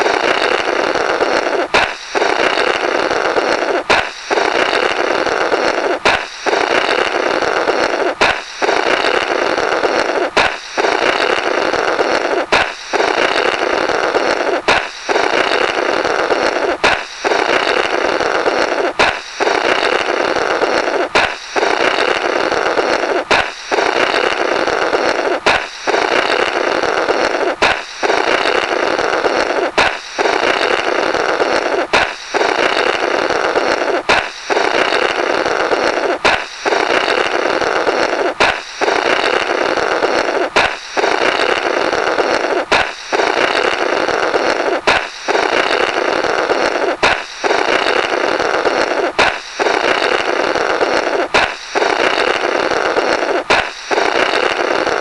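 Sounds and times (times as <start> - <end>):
balloon popping: 0.0 - 55.0
rasping blurt through rubber: 0.0 - 55.0.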